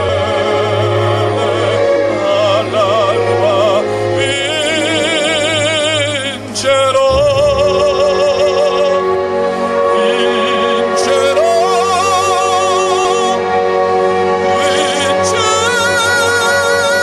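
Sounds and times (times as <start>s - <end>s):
instrumental accompaniment: 0.0s - 17.0s
operatic singing with vibrato: 0.0s - 17.0s.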